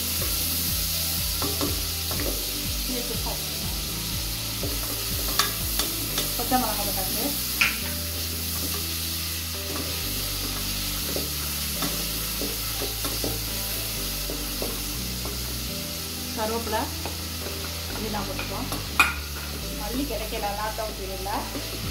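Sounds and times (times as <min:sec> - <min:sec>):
food sizzling in hot oil: 0:00.0 - 0:21.9.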